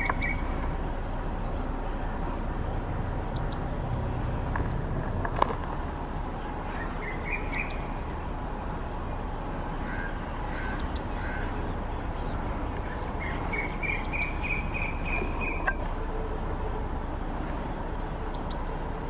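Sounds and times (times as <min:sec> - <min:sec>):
birds chirping: 0:00.0 - 0:04.4, 0:05.8 - 0:19.0
steady background noise: 0:00.0 - 0:19.0.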